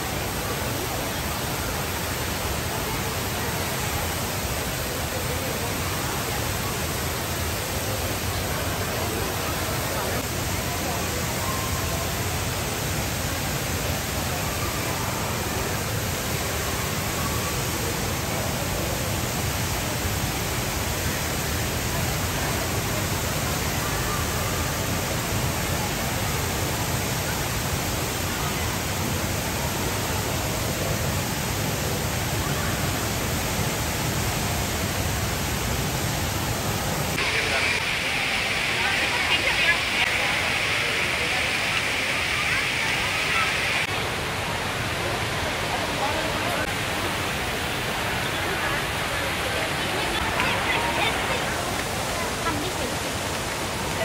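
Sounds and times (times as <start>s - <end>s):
faint voices: 0.0s - 54.0s
indoor waterfall rushing: 0.0s - 54.0s.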